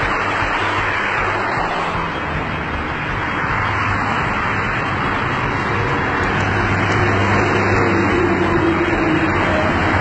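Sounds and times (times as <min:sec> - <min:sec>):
car approaching: 0:00.0 - 0:10.0
road traffic passing: 0:00.0 - 0:10.0.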